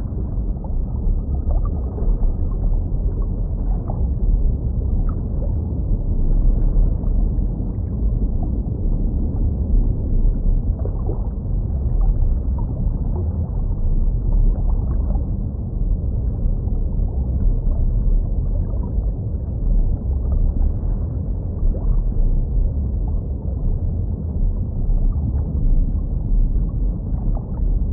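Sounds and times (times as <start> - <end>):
underwater aquarium rumble: 0.0 - 27.9.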